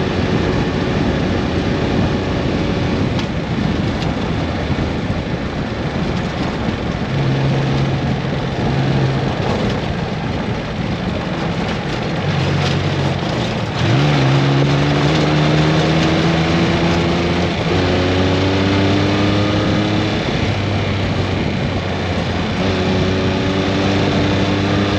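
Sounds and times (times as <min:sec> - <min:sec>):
steady rushing noise: 0:00.0 - 0:24.9
vehicle engine accelerating: 0:00.0 - 0:24.9.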